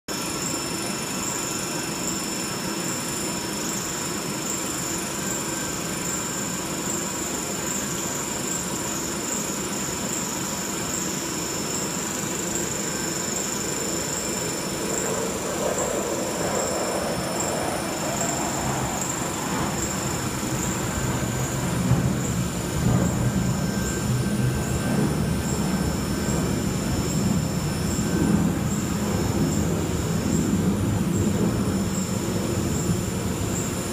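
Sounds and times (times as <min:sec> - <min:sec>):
machine drone with high whine: 0:00.1 - 0:33.9.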